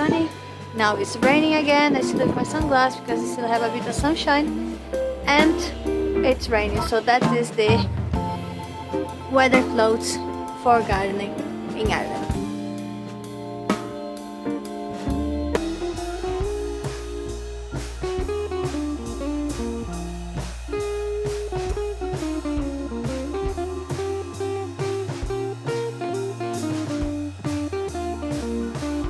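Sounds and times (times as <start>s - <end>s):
blues guitar instrumental with drums: 0.0s - 29.0s.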